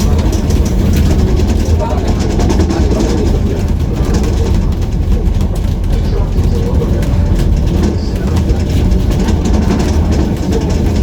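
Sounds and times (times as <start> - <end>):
bus engine rumble: 0.0 - 11.0
city traffic: 0.0 - 11.0
street noise: 0.0 - 11.0.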